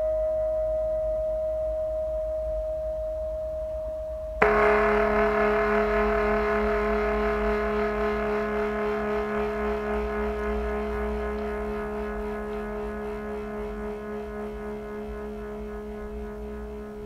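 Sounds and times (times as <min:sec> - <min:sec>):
lower struck tone ringing: 0:00.0 - 0:17.0
ringing metallic tone: 0:00.0 - 0:17.0.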